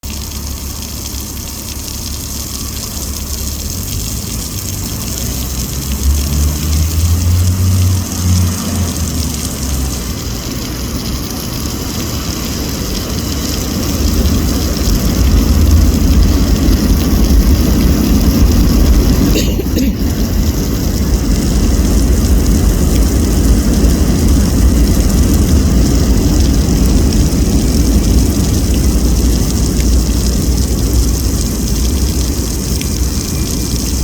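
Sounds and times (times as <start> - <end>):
city traffic rumble: 0.0 - 34.0
constant hiss: 0.0 - 34.0
heavy vehicles passing: 1.4 - 34.0.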